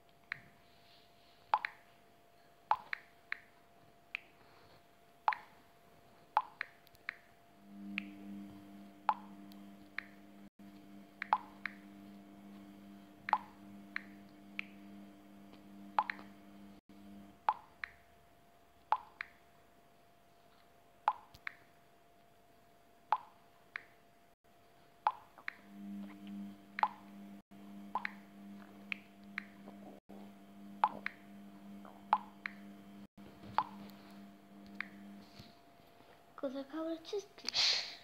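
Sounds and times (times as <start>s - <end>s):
low steady hum: 0.0s - 37.4s.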